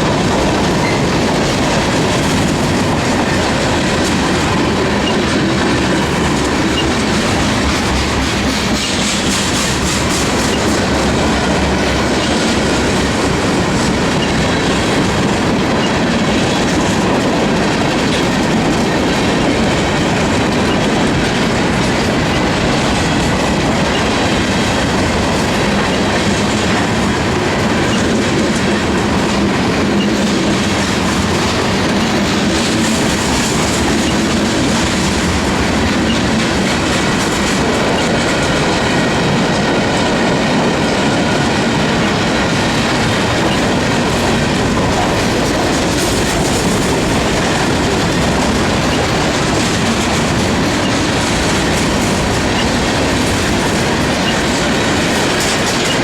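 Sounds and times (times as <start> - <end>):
freight train wheels clicking on rails: 0.0 - 56.0.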